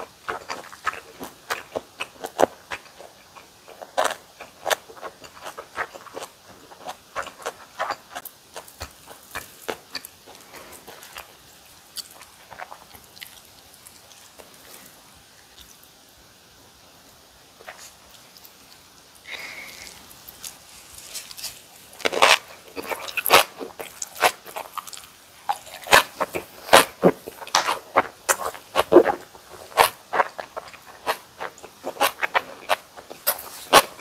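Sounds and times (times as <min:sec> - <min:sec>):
close chewing crunches: 0:00.0 - 0:15.8, 0:17.6 - 0:34.0.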